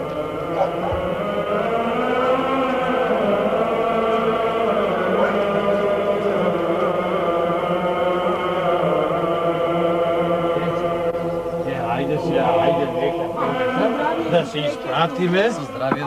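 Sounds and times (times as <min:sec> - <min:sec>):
choir chanting held notes: 0:00.0 - 0:16.0.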